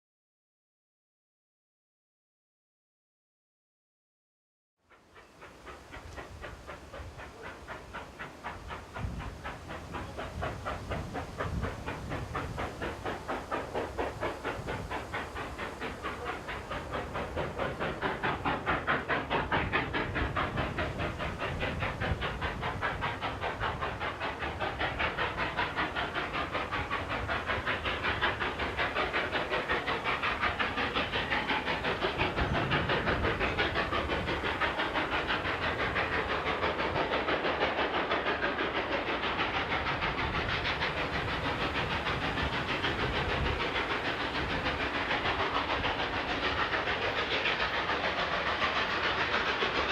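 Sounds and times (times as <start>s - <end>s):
steam hiss: 4.9s - 49.9s
steam locomotive exhaust beating: 4.9s - 49.9s.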